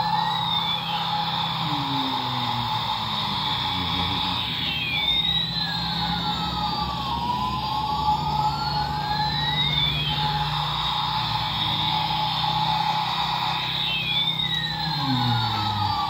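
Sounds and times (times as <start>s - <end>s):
steady electronic drone: 0.0s - 16.0s
toy siren wailing tone: 0.0s - 16.0s.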